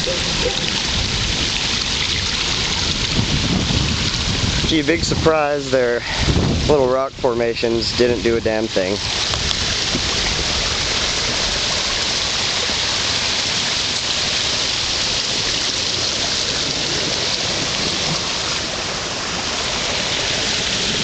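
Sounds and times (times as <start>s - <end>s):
rushing water hiss: 0.0s - 21.0s.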